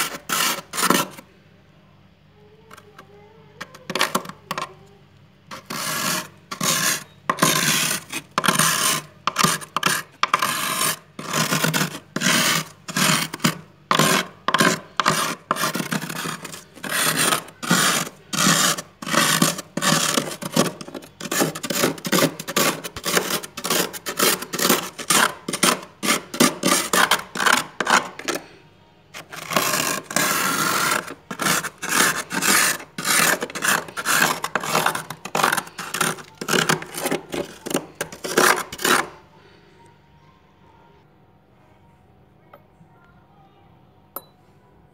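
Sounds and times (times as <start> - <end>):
utensil scraping freezer frost: 0.0 - 1.3, 3.6 - 4.7, 5.5 - 39.2.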